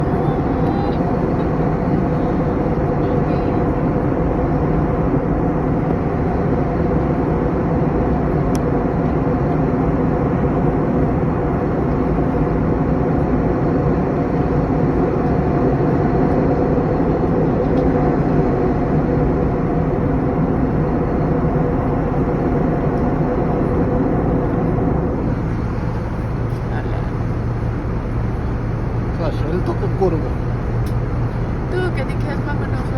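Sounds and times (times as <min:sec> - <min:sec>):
jet engine and airflow noise: 0:00.0 - 0:32.9.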